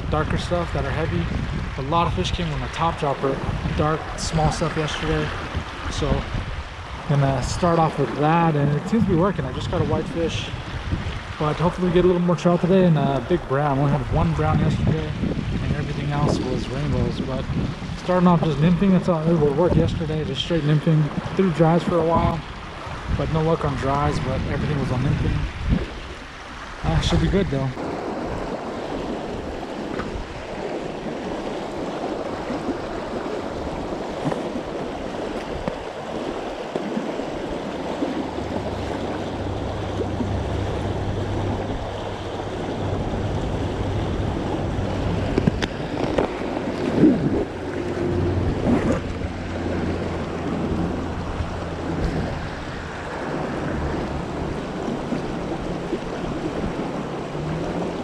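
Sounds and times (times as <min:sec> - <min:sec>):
river water running over riffle: 0:00.0 - 0:58.0
wind on microphone: 0:00.0 - 0:58.0.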